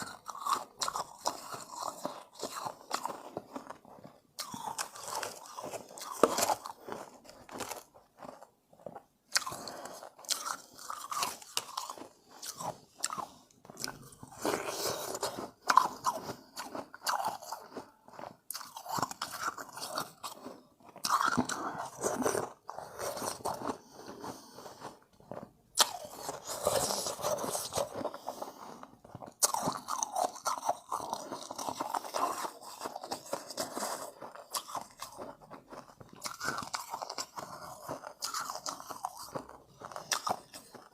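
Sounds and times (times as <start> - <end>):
person crunching ice: 0.0 - 40.9.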